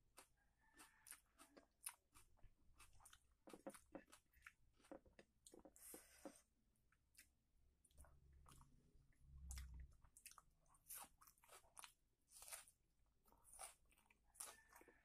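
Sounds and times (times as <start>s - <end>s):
chewing and wet mouth sounds: 0.0s - 6.1s, 6.9s - 15.0s.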